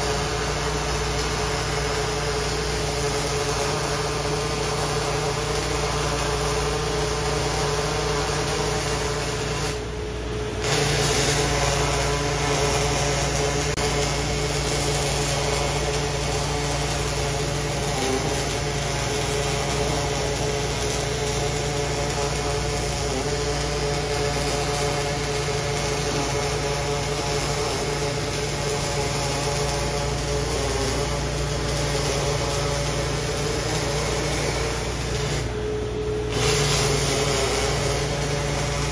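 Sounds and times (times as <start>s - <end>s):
machine hum: 0.0s - 38.9s
welding arc hiss and buzz: 0.0s - 38.9s.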